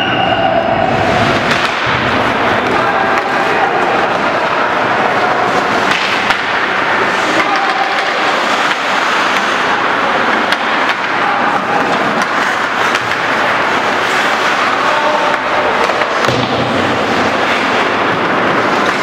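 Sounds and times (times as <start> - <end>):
skate blades scraping ice: 1.0 - 19.0
sticks striking puck: 1.2 - 19.0.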